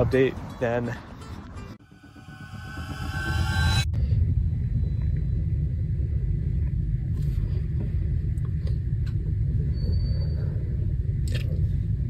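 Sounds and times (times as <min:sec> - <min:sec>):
steady low rumble: 0:01.8 - 0:12.0.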